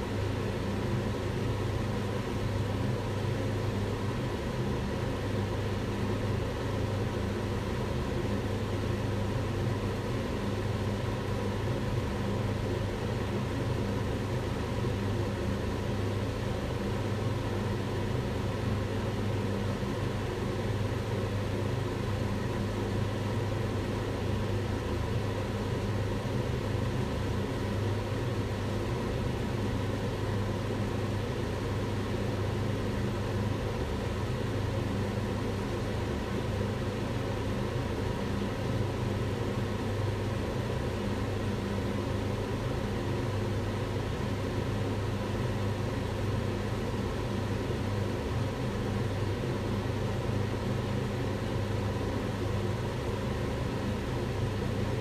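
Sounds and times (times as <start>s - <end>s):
extractor hood fan running: 0.0s - 55.0s.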